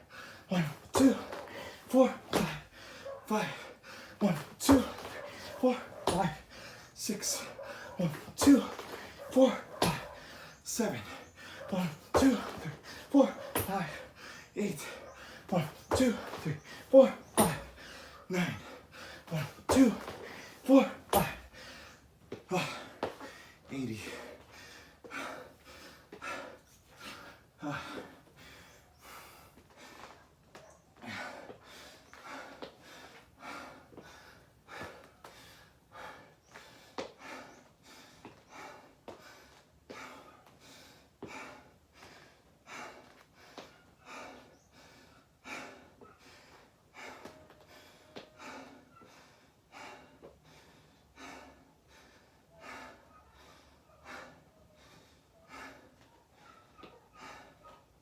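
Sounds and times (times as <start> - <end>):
person breathing hard: 0.0 - 30.3, 31.0 - 57.9.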